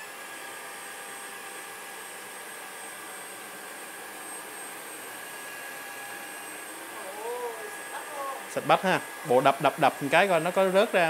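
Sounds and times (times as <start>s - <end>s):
floor vacuum motor whine: 0.0s - 11.0s.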